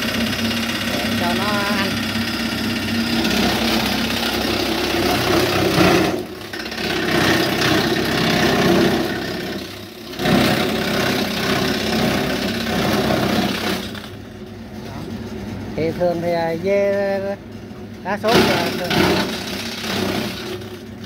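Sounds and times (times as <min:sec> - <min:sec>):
forage chopper shredding branches: 0:00.0 - 0:17.4, 0:18.0 - 0:21.0.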